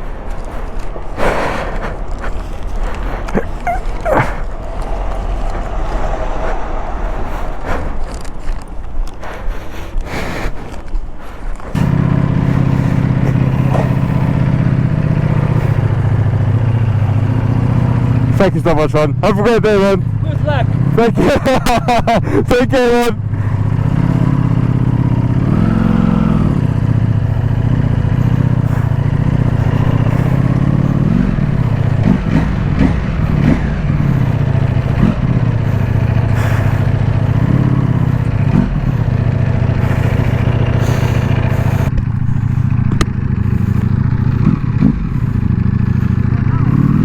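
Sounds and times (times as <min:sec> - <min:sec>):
motorcycle engine revving: 0:00.0 - 0:09.2, 0:11.6 - 0:47.0.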